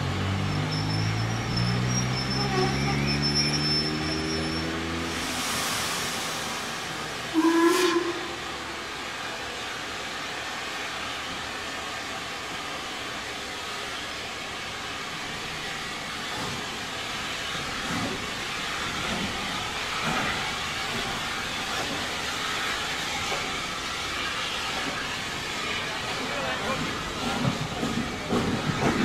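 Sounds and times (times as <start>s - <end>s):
train rushing and rumbling: 0.0s - 29.0s.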